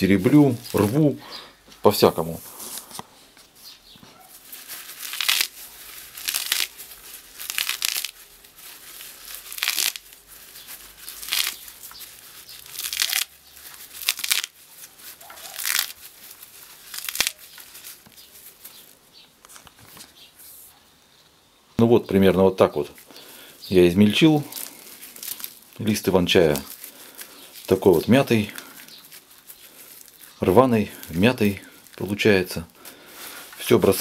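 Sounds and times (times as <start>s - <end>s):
leaves crumpled and torn by hand: 0.0s - 1.2s, 4.1s - 20.2s, 22.8s - 34.0s.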